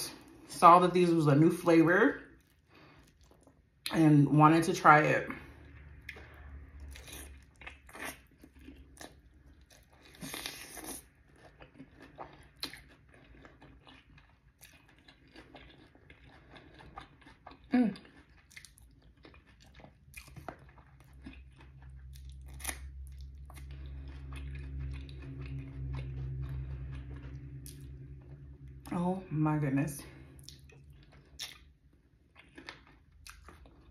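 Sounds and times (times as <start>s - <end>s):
low steady hum: 0.0s - 33.9s
crunching and chewing: 2.4s - 3.9s, 5.3s - 28.9s, 30.1s - 33.9s.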